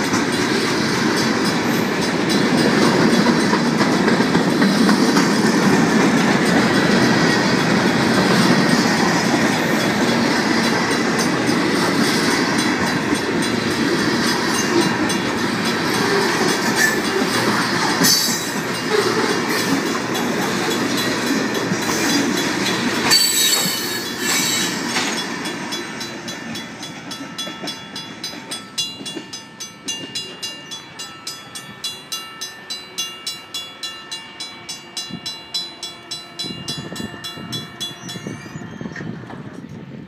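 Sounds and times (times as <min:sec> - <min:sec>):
crossing bells ringing: 0:00.0 - 0:39.5
freight train rolling over rails: 0:00.0 - 0:40.0.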